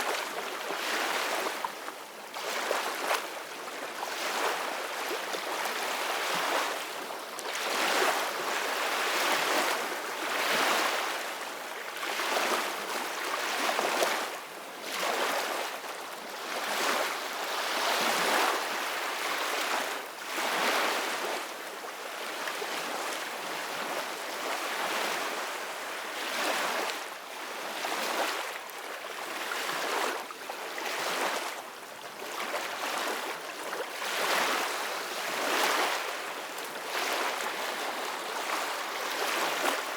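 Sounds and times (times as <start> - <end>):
soft ocean waves: 0.0 - 39.9.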